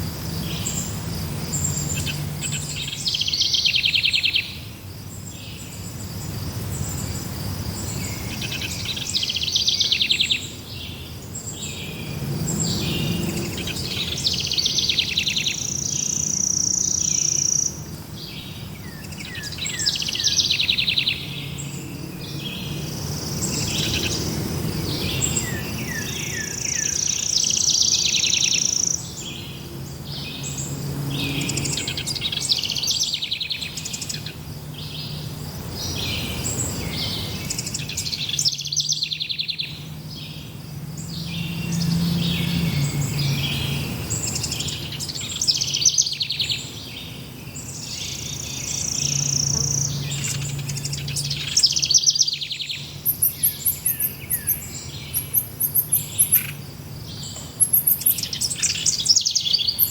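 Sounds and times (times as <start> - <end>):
forest birds singing: 0.0 - 59.9.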